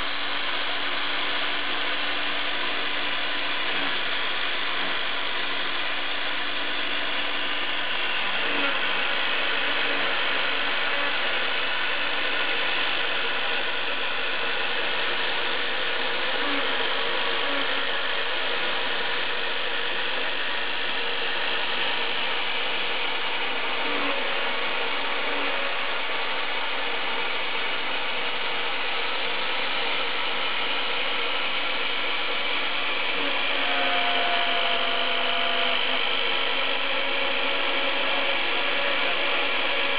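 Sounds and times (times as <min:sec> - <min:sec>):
router motor cutting: 0:00.0 - 0:39.9.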